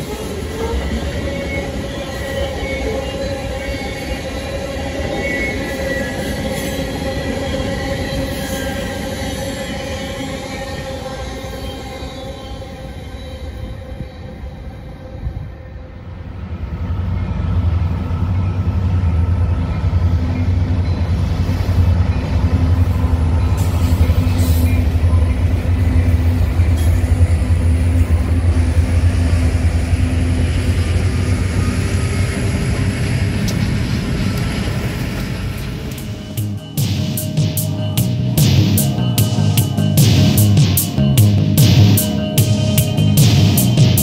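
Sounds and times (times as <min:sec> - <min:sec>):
train wheels on rails: 0:00.0 - 0:14.5, 0:16.1 - 0:44.0
locomotive engine drone: 0:00.0 - 0:44.0.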